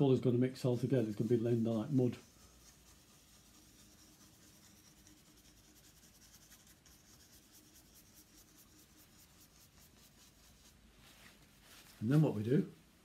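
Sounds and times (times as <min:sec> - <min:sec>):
faint steady hum: 0:00.0 - 0:13.0
paint brush scratching on panel: 0:00.3 - 0:12.6.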